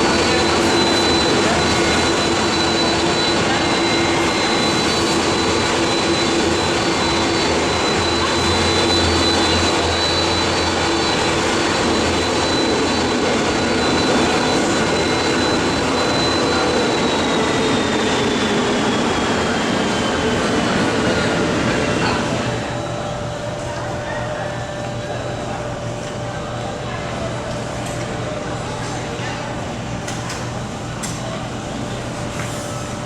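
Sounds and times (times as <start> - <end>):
jet engines running: 0.0 - 28.6
high turbine whine: 0.0 - 30.0.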